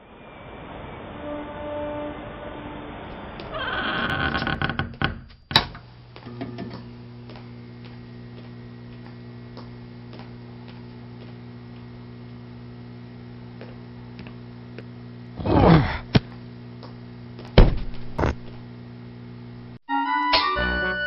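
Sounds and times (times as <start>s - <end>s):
electrical hum: 0.0s - 19.8s.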